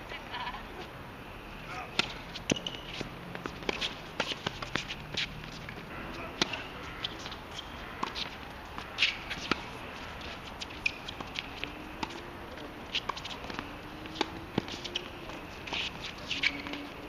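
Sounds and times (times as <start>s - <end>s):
tennis ball hits and bounces: 1.8s - 17.0s
shoes scuffing on court: 1.9s - 17.0s.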